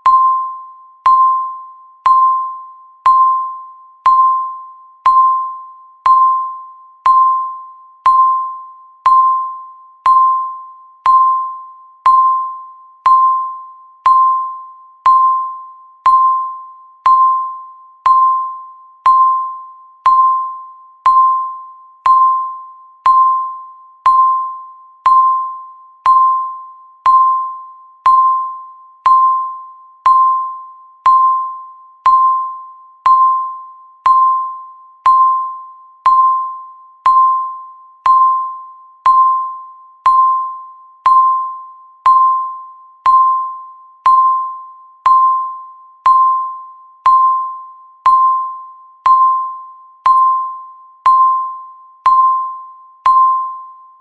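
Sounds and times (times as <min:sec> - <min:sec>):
timer ticking with ringing dings: 0:00.0 - 0:54.0.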